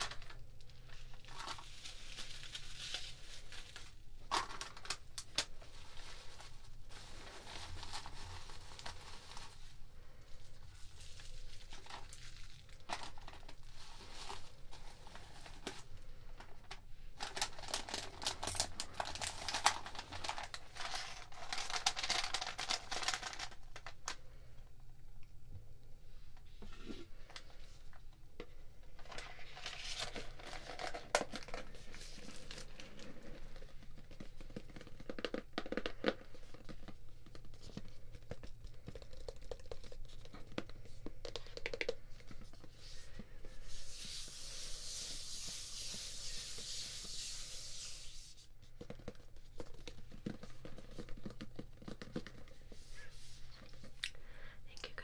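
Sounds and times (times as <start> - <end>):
tissue paper crinkling: 0.0 - 24.2, 29.0 - 54.0.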